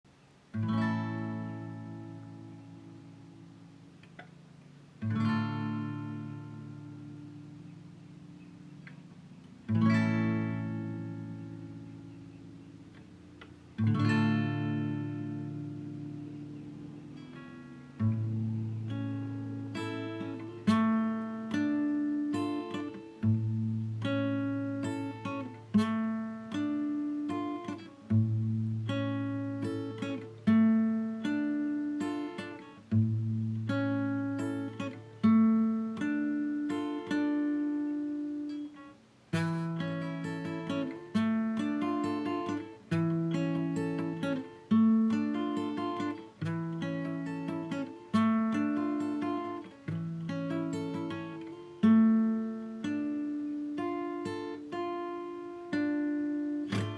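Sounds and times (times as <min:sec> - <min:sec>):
acoustic guitar music: 0:00.0 - 0:56.9.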